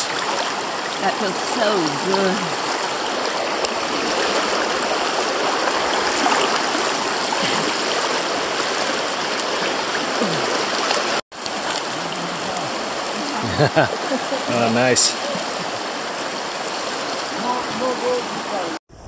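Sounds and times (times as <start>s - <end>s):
river rapids rushing over rocks: 0.0s - 18.8s.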